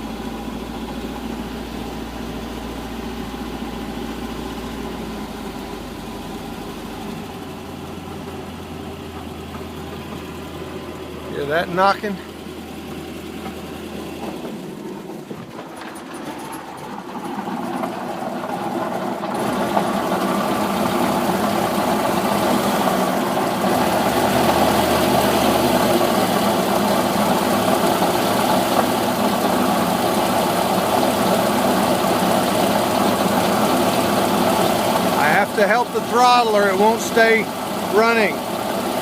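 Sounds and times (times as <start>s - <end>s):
car engine running with knocking: 0.0s - 39.0s.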